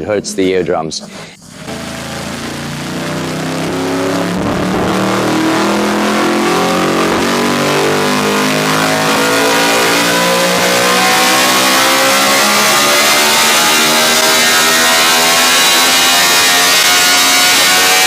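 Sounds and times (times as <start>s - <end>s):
motorcycle engine revving under load: 1.4s - 18.0s.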